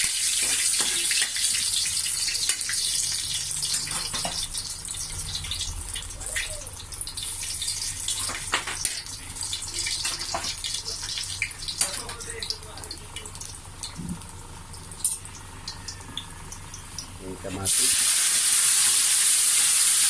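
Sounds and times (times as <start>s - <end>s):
ginger sizzling in hot oil: 0.0s - 20.0s.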